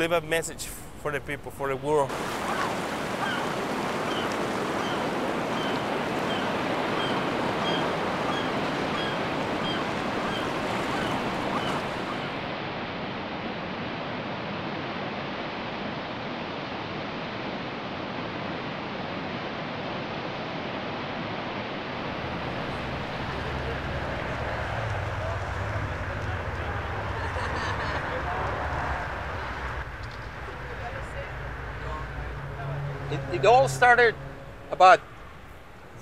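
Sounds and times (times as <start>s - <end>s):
ocean surf washing onto beach: 1.9s - 35.4s.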